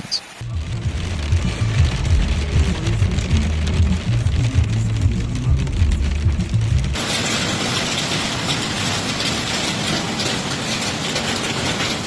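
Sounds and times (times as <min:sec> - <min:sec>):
hail and rain pelting down: 0:00.2 - 0:12.0.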